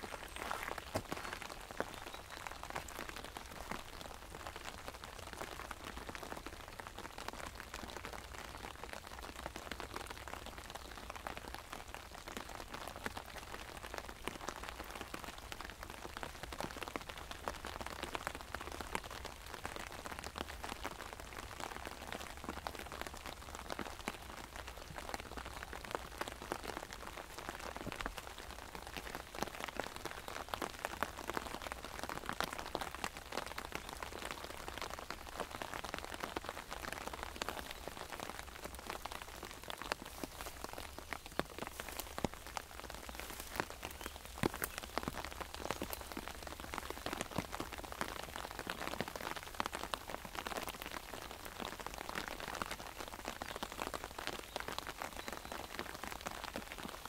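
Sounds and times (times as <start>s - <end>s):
rain on an umbrella: 0.0s - 57.0s.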